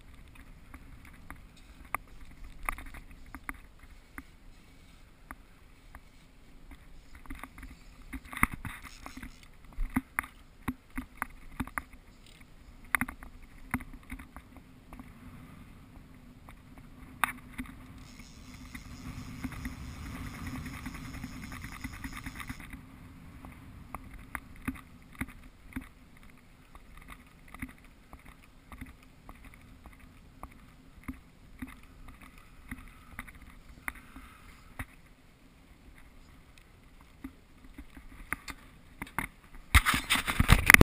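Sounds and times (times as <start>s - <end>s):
steady rush of noise: 0.0s - 40.8s.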